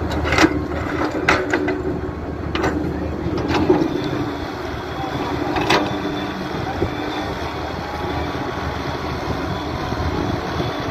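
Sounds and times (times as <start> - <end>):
excavator engine running: 0.0 - 10.9.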